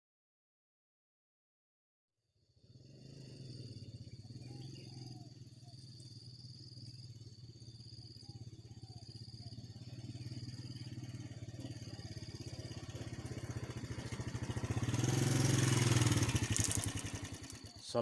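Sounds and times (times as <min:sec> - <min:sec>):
small engine humming: 0:02.5 - 0:18.0
insect buzzing: 0:02.6 - 0:17.8.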